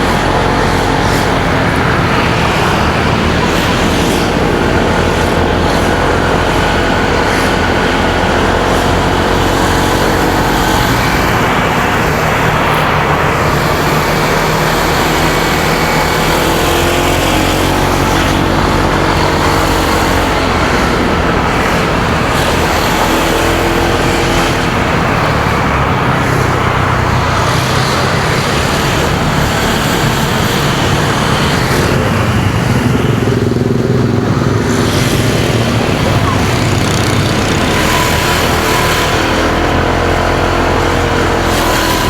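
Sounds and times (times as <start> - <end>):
motorcycle engine running: 0.0 - 42.0
passing road traffic: 0.0 - 42.0
wind rush on microphone: 0.0 - 42.0.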